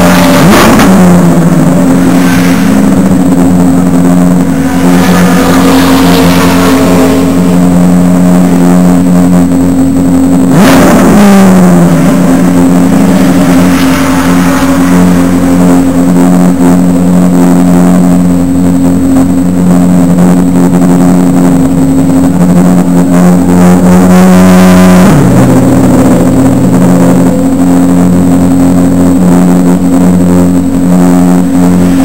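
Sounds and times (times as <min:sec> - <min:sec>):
race car engine idling: 0:00.0 - 0:32.0.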